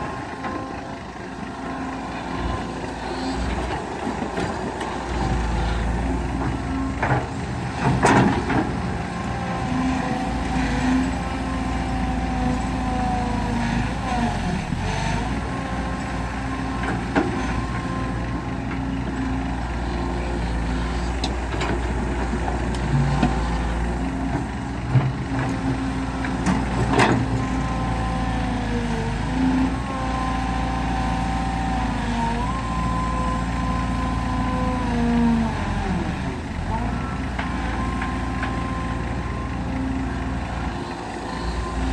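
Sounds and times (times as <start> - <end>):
excavator diesel engine working: 0.0 - 41.9.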